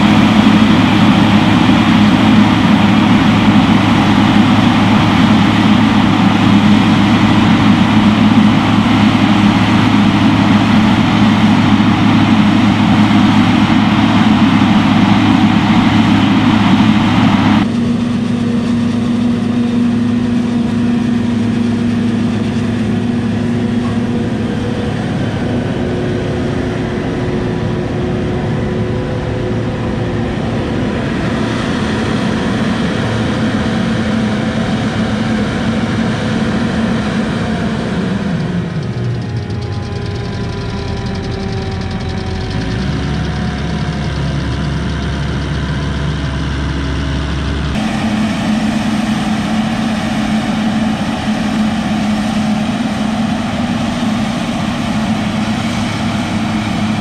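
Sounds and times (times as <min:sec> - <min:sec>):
diesel farm machinery running: 0:00.0 - 0:57.0.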